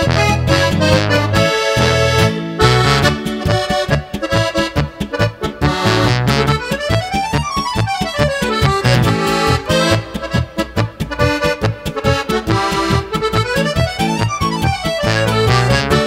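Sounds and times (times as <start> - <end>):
button accordion playing lively tune: 0.0 - 16.0.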